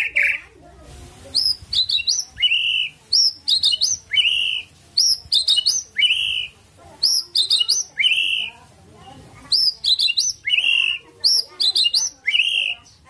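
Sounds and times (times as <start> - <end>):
bird singing chirps and whistle: 1.3 - 8.6, 9.5 - 13.0.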